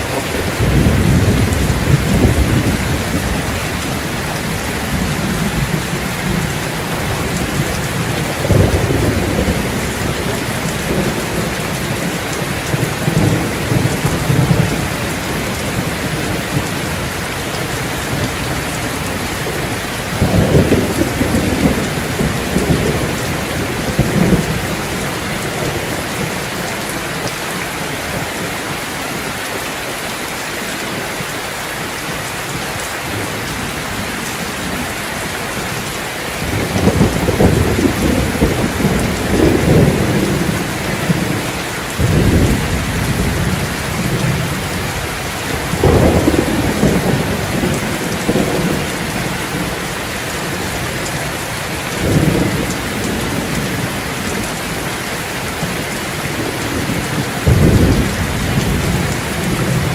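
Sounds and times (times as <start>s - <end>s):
thunder rumbling: 0.0s - 28.6s, 32.4s - 59.9s
heavy rain: 0.0s - 59.9s.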